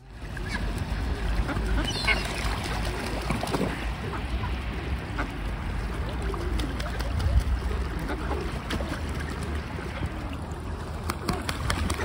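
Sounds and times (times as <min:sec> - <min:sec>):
water splashing and lapping: 0:00.0 - 0:12.0
wind rumble on microphone: 0:00.0 - 0:12.0.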